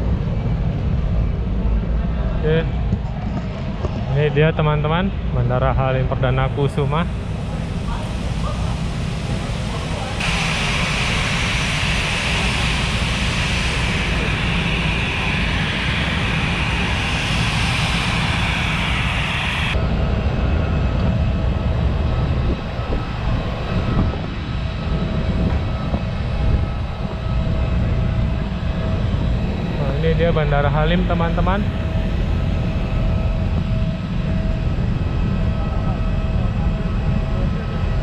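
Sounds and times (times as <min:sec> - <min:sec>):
jet engine high whine: 0:00.0 - 0:38.0
jet low rumble: 0:00.0 - 0:38.0.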